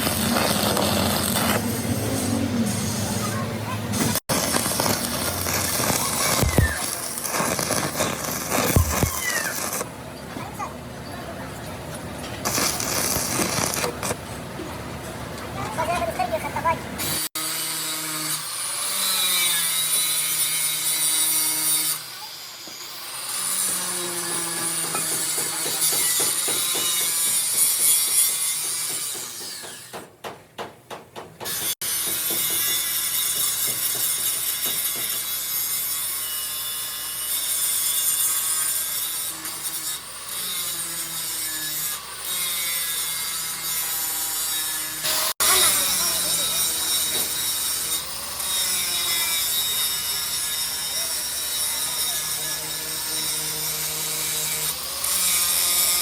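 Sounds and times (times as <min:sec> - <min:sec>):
tool grating on steel: 0:04.0 - 0:09.9, 0:12.4 - 0:14.2, 0:17.0 - 0:30.0, 0:31.5 - 0:56.0.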